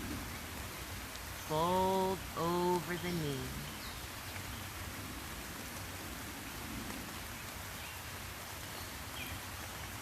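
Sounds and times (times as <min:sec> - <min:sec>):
light rain falling: 0:00.0 - 0:10.0.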